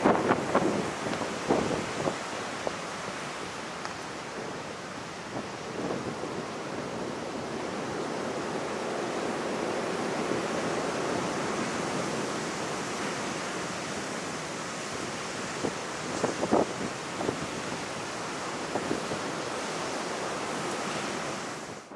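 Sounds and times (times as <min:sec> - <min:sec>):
wind on microphone: 0:00.0 - 0:03.4, 0:04.2 - 0:13.2, 0:13.8 - 0:21.9
surf washing onto pebble beach: 0:00.0 - 0:21.8.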